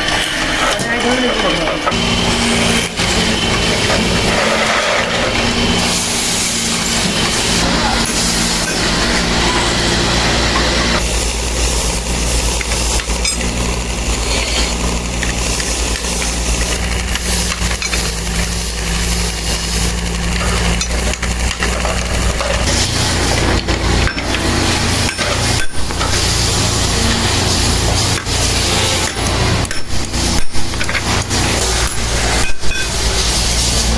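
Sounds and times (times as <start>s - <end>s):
motor humming: 0.0s - 33.9s
constant hiss: 0.4s - 33.9s.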